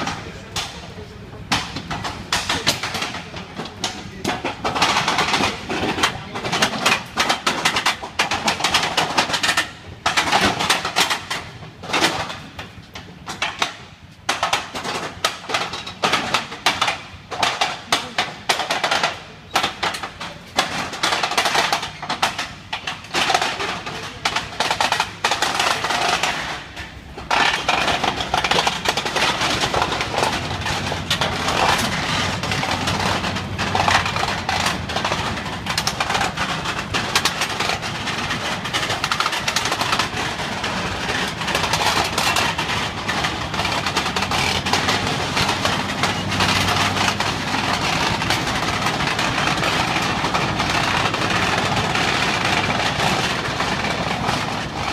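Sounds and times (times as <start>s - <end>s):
steel tracks clattering: 0.0s - 54.9s.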